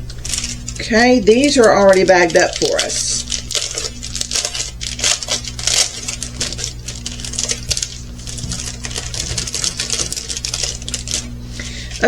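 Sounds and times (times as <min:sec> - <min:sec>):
plastic beads rattling in bags: 0:00.2 - 0:12.0.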